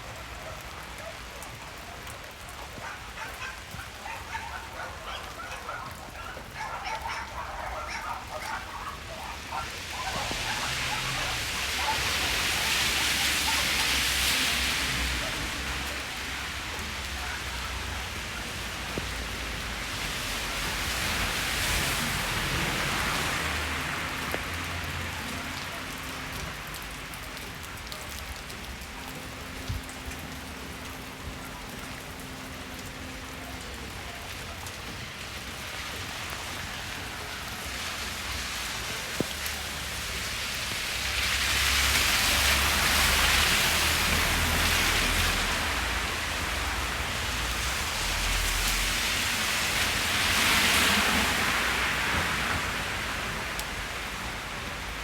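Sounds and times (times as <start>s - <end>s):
water hissing on road: 0.0s - 27.7s, 34.2s - 55.0s.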